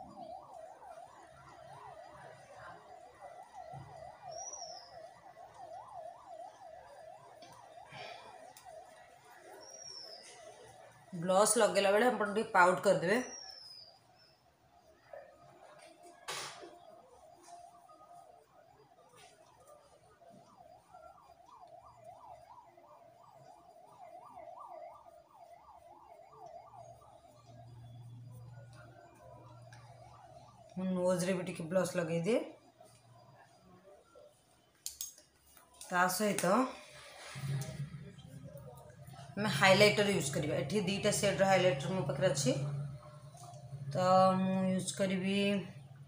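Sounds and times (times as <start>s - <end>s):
faint siren yelping: 0.0s - 34.7s, 35.8s - 46.0s.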